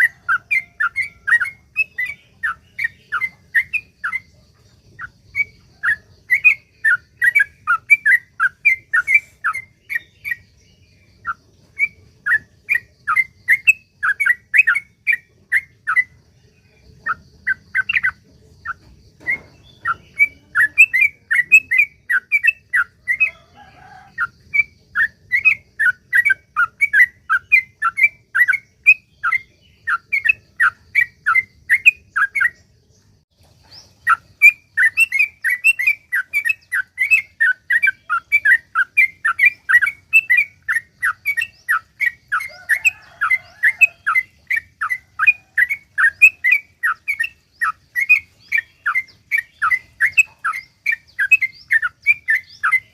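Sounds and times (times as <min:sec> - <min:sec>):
bird chattering song: 0:00.0 - 0:52.9.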